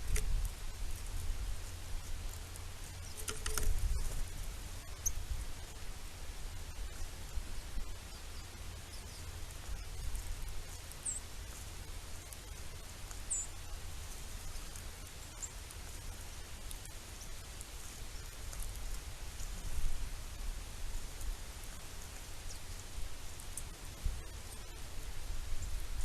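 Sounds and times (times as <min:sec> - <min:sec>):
faint crackling hiss: 0:00.0 - 0:26.0.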